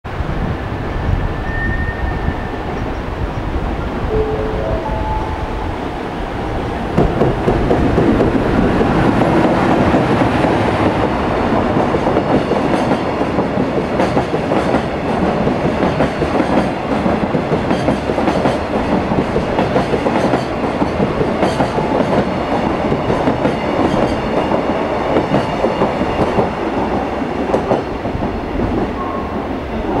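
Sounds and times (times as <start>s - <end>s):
electric locomotive passing: 0.1s - 30.0s.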